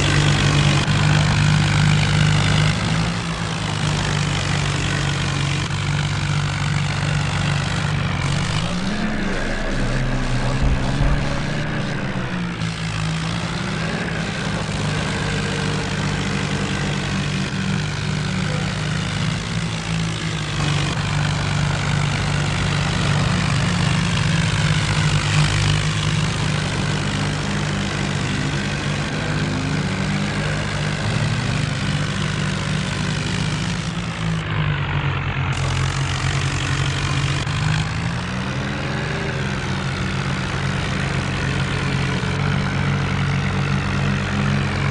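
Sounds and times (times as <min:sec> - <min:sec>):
diesel tractor engine running: 0:00.0 - 0:44.9.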